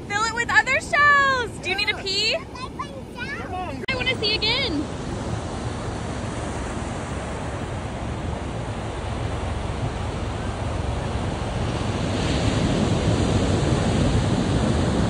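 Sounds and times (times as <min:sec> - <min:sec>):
ocean surf washing up beach: 0:00.0 - 0:15.0
wind buffeting microphone: 0:00.0 - 0:15.0.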